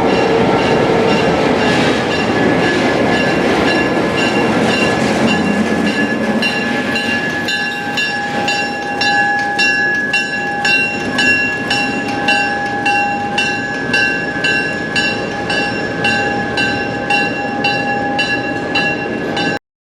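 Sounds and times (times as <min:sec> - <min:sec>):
bell ringing steadily: 0:00.0 - 0:19.6
diesel train rumbling: 0:00.0 - 0:19.6.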